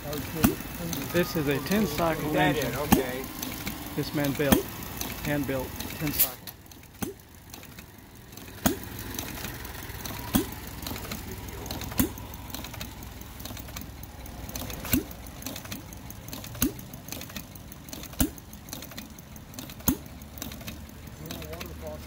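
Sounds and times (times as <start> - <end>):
engine mechanical clatter: 0.0 - 22.0
sharp engine firing pops: 0.4 - 0.8, 2.8 - 13.9, 14.5 - 21.7.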